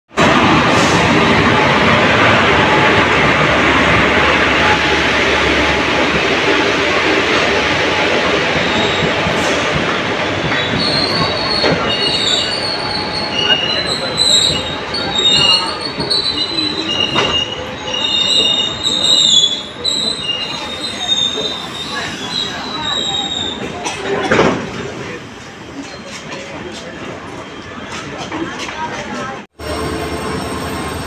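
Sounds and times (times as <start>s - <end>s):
train wheels rumbling on rail: 0.1s - 31.0s.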